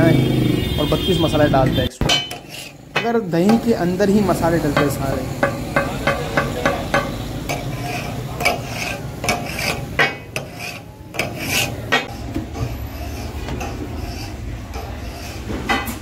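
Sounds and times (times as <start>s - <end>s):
metal spatula scraping on griddle: 2.1s - 16.0s.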